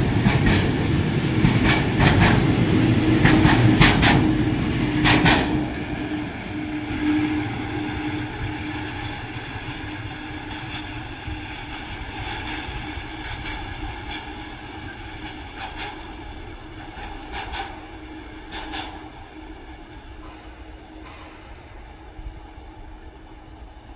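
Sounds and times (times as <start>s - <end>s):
train wheels clicking: 0.0s - 22.6s
train rumble: 0.0s - 23.9s.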